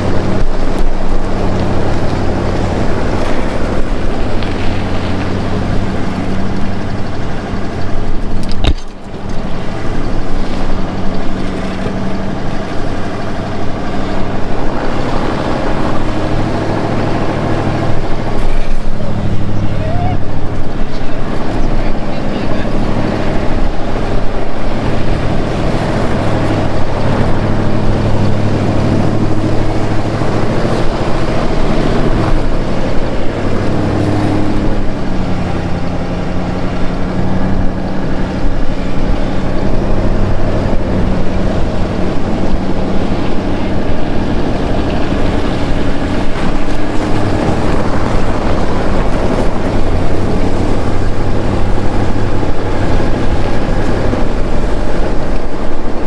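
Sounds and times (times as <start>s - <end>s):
pickup truck engine running: 0.0s - 56.0s.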